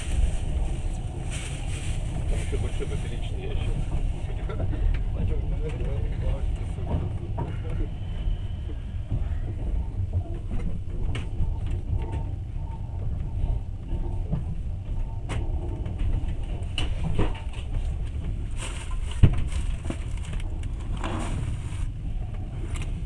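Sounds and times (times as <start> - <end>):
train carriage rumble: 0.0 - 23.0.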